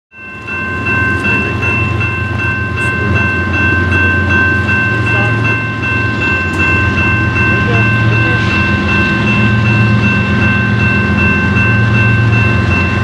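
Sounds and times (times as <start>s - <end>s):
diesel locomotives rumbling: 0.1s - 13.0s
level crossing bell ringing: 0.1s - 13.0s.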